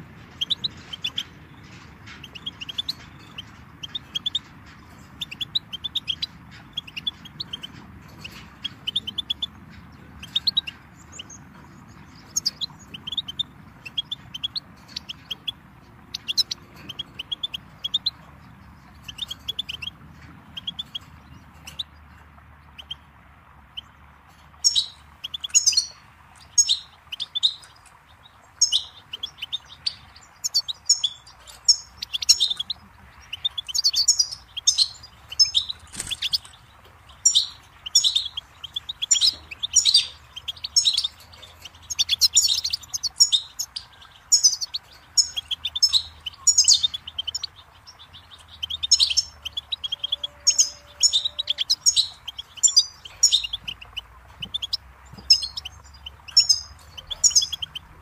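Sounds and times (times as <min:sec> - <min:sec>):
goldfinch singing chirps and trills: 0:00.0 - 0:58.0.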